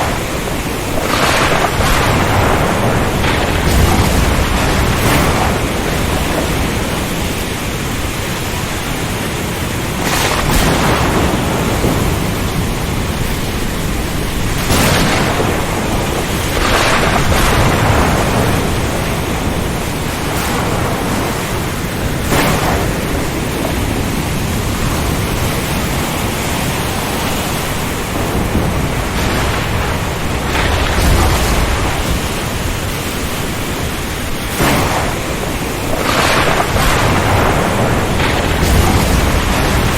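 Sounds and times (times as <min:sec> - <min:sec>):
heavy rain: 0:00.0 - 0:39.9
strong wind: 0:00.0 - 0:39.9
thunder or breaking waves: 0:00.0 - 0:39.9.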